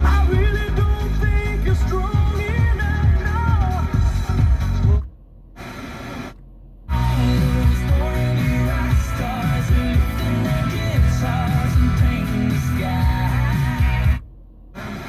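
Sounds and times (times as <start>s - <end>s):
music with singing on car radio: 0.0s - 15.0s.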